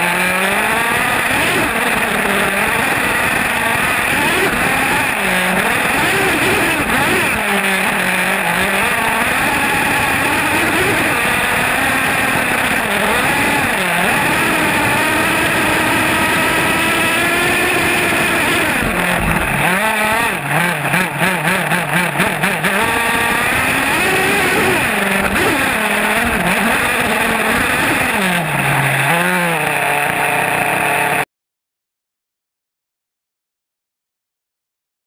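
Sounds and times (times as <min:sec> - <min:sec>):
small nitro engine revving: 0:00.0 - 0:31.2.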